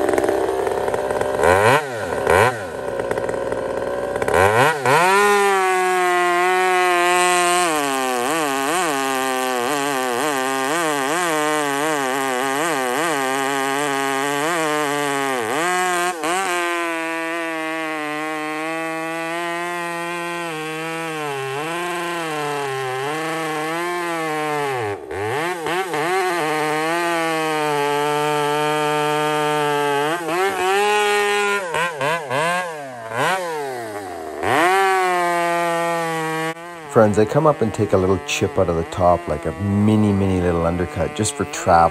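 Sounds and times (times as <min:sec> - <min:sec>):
chainsaw cutting log: 0:00.0 - 0:41.9.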